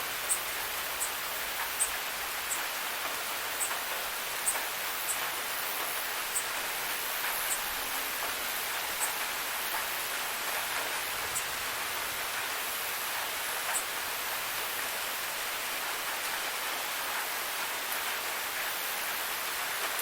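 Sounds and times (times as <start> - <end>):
waterfall hiss: 0.0 - 20.0.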